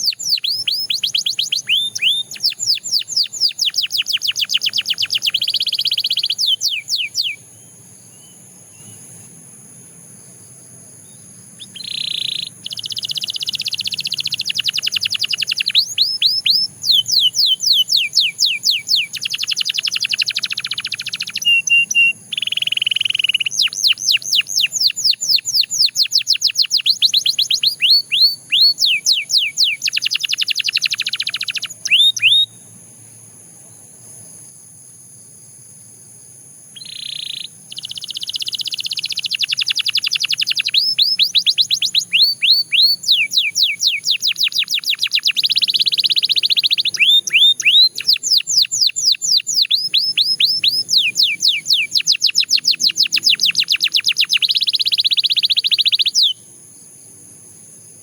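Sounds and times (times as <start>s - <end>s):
canary singing fast trills: 0.0s - 32.8s, 36.7s - 58.0s.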